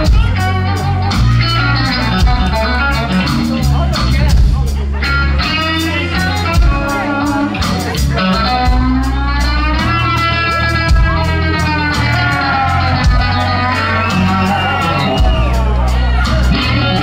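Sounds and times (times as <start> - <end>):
bass guitar: 0.0 - 17.0
drums: 0.0 - 17.0
electric guitar bent notes: 0.0 - 17.0.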